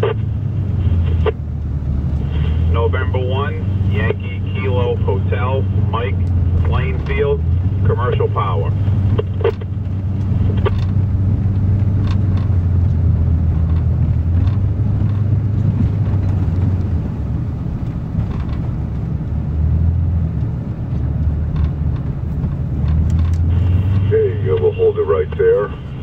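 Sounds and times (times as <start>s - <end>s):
engine and road drone: 0.0s - 26.0s.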